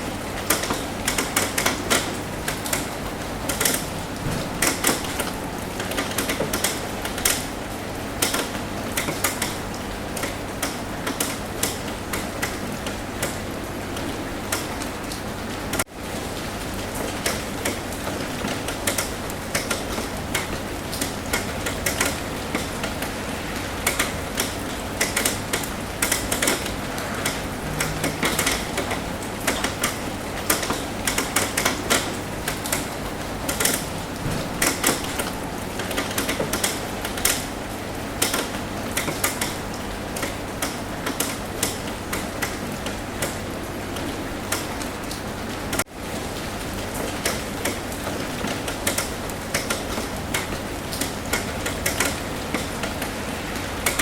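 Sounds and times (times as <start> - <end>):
rain hiss: 0.0 - 54.0
raindrops tapping on a roof: 0.0 - 54.0.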